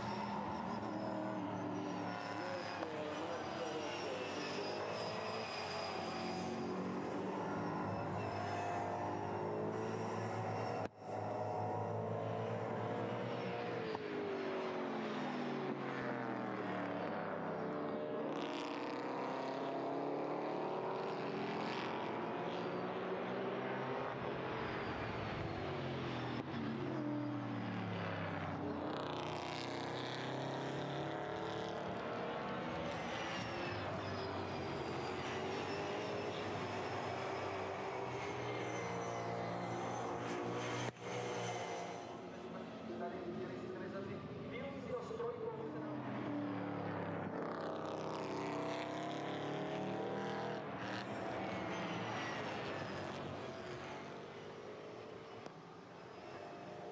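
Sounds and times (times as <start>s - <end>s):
race car engines revving: 0.0s - 56.9s.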